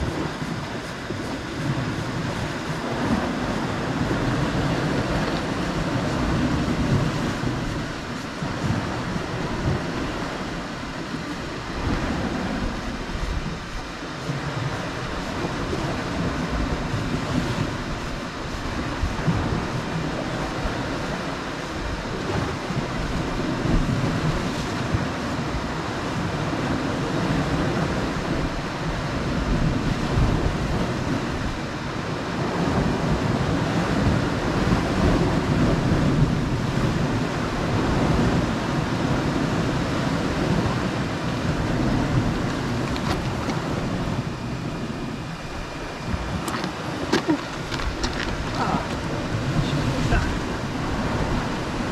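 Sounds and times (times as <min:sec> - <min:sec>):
waves washing on rocky shore: 0:00.0 - 0:51.9
wind buffeting microphone: 0:00.0 - 0:51.9.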